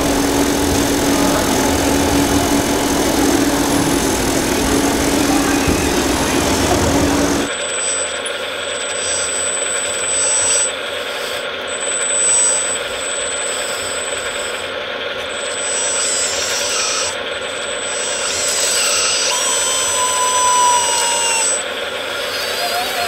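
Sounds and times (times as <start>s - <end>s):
rc loader motor whirr and whine: 0.0s - 23.0s.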